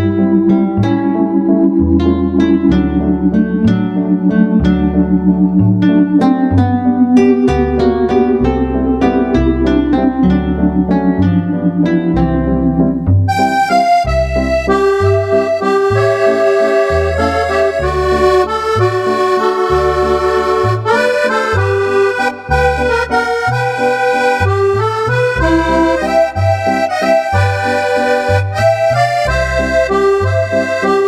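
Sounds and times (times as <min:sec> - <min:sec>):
electronic accordion playing a tune: 0:00.0 - 0:31.0.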